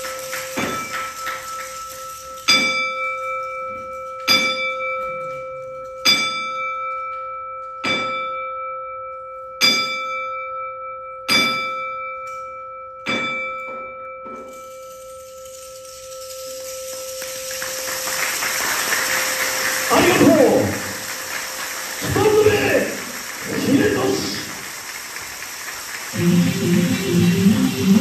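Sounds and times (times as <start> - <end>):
ring bell strikes: 0.0 - 23.0.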